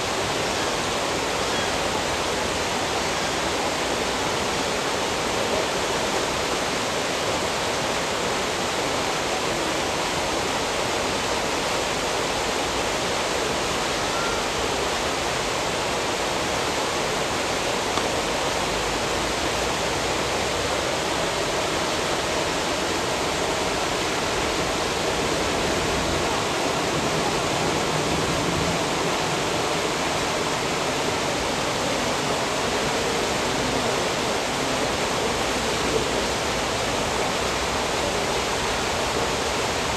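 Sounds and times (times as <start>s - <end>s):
turbulent foaming water rushing: 0.0s - 39.9s.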